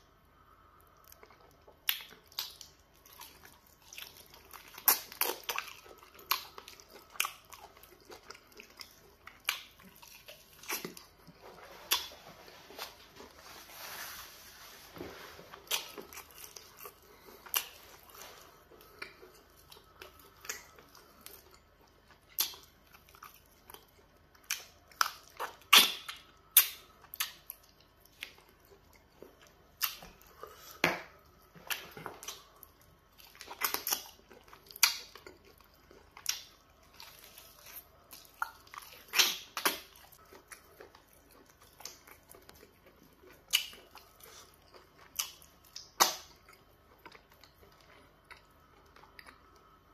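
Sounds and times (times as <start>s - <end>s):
wet chewing and lip smacking: 0.9s - 12.3s, 15.6s - 49.8s.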